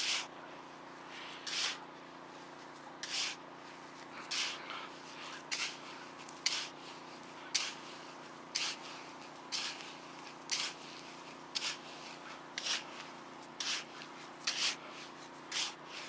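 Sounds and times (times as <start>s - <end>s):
hand scraping through sand: 0.0s - 0.3s, 1.1s - 1.9s, 2.5s - 16.0s.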